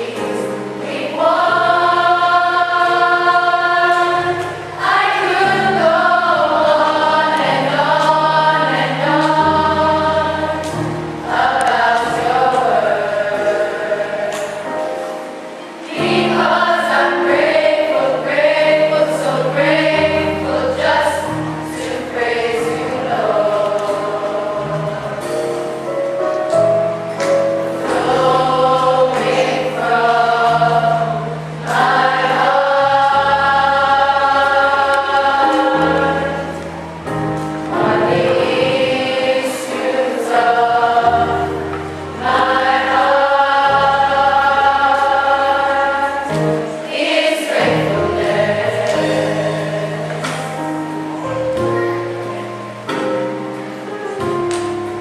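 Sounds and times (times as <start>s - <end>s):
choir singing a hymn: 0.0s - 55.0s
instrumental accompaniment: 0.0s - 55.0s.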